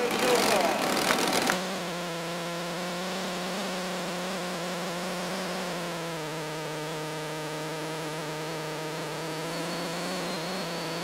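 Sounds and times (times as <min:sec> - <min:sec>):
electrical buzz: 0:00.0 - 0:11.0.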